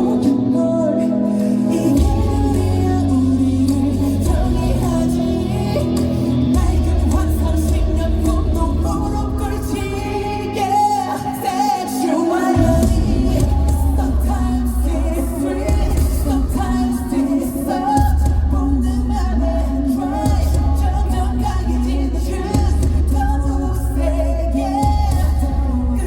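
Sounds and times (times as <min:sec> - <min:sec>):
man singing live: 0:00.0 - 0:26.0
backing track with heavy bass beat: 0:01.3 - 0:26.0.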